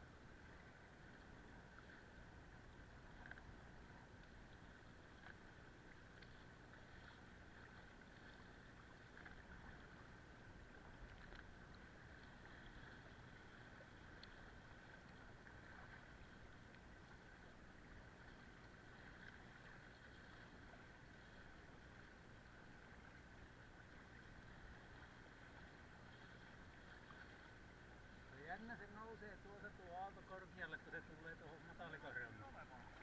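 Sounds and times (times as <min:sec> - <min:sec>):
faint hiss of wind and water: 0:00.0 - 0:33.0.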